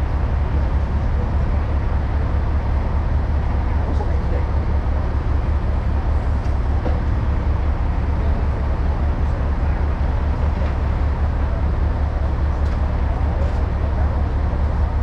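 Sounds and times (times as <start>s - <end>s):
heavy diesel engines rumbling: 0.0s - 15.0s.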